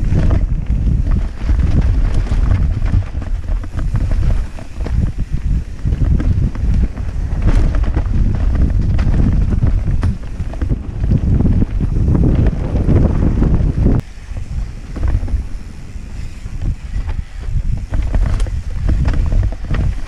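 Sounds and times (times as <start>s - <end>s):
bike rattling over dirt trail: 0.0s - 20.0s
wind buffeting microphone: 0.0s - 20.0s.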